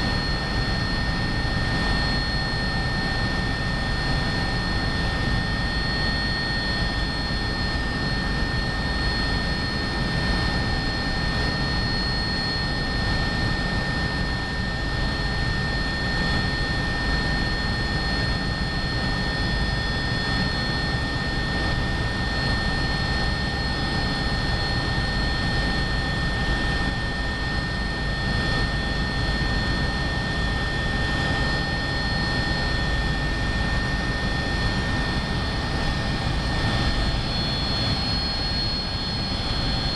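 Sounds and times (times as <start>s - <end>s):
helicopter engines and rotor: 0.0s - 39.9s
steady high whine: 0.0s - 39.9s.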